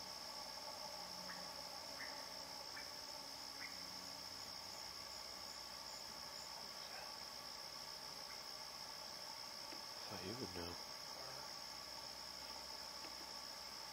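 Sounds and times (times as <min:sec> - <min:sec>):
crickets trilling: 0:00.0 - 0:13.9.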